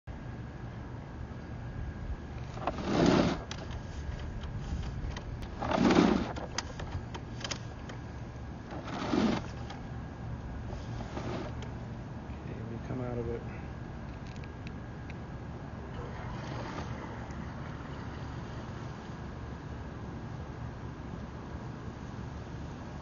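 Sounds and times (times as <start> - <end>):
low machine hum: 0.1 - 23.0.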